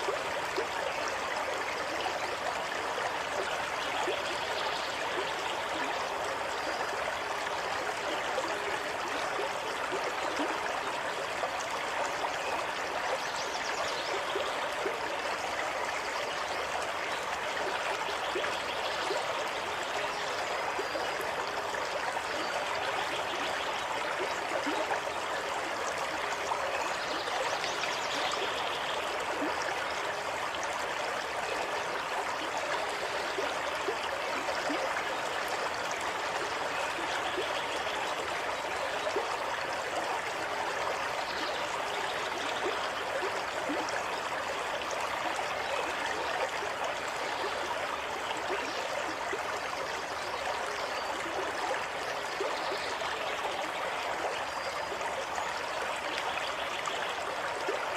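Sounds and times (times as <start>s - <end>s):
stream water bubbling: 0.0s - 57.9s.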